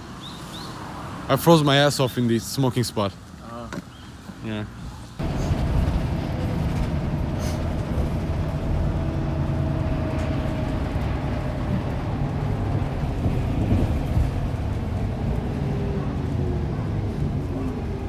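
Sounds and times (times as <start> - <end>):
bus rumbling from inside: 3.4 - 18.0.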